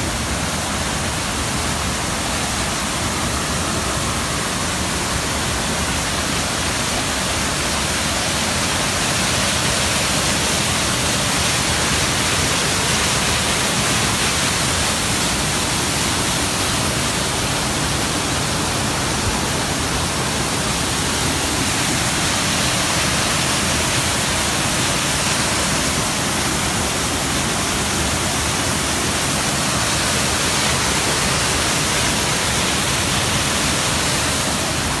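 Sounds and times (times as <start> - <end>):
waterfall pouring: 0.2 - 35.0.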